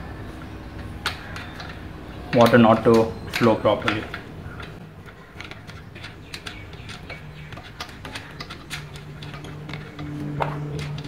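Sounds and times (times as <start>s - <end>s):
spanner clicking on metal bolts: 1.0s - 11.0s.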